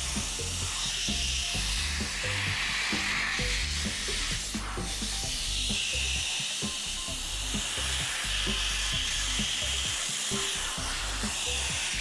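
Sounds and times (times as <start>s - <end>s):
background music: 0.0s - 12.0s
pet dryer blowing air: 0.0s - 12.0s.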